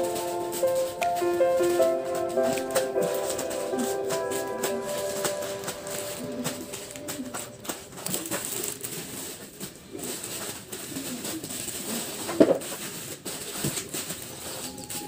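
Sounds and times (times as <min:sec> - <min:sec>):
plastic packets rustling and crinkling: 0:00.0 - 0:15.0.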